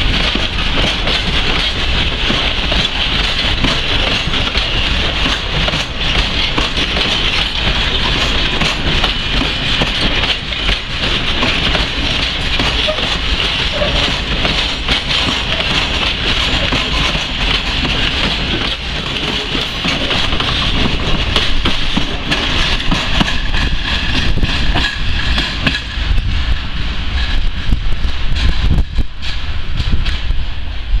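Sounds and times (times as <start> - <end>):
wheels clacking over rail joints: 0.0 - 30.3
freight train rumbling past: 0.0 - 31.0.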